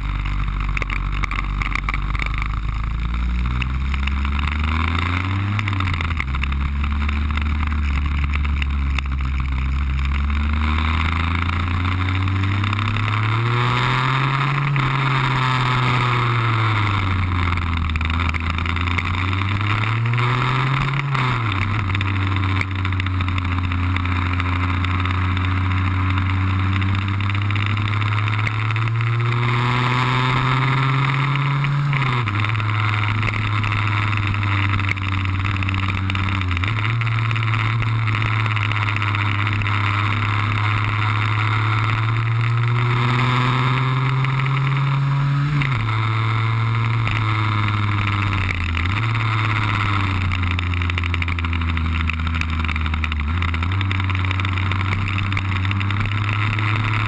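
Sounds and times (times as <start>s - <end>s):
scooter two-stroke engine: 0.0s - 57.0s.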